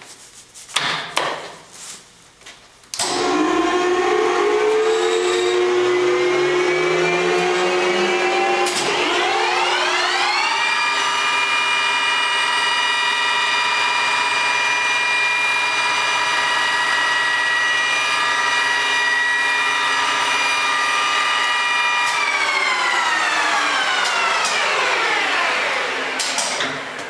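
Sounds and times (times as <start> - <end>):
lathe gear drive whining: 3.0 - 27.0.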